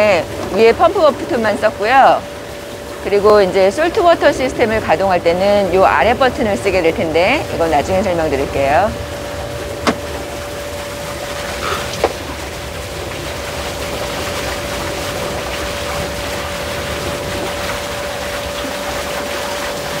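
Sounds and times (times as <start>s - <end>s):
pool filter pump humming: 0.0s - 20.0s
rushing water: 0.0s - 20.0s.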